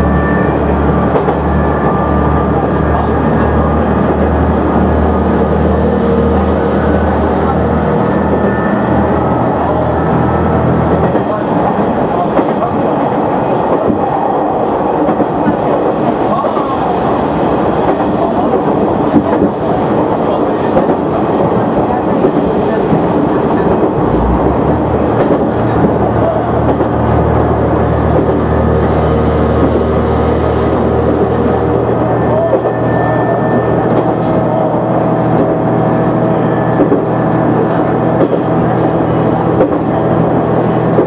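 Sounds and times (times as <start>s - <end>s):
wheels rumbling on track: 0.0s - 41.0s.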